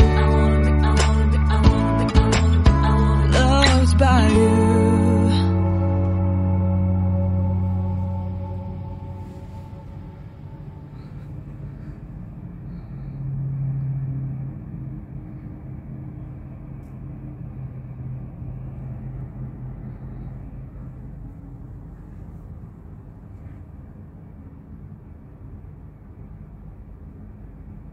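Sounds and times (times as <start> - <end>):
low hum: 0.0 - 27.9
distant highway traffic rumble: 5.4 - 27.9.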